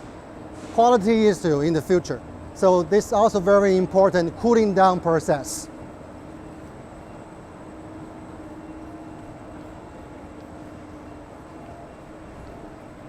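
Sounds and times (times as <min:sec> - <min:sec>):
faint high whine: 0:00.0 - 0:13.0
production line machinery humming: 0:00.0 - 0:13.0.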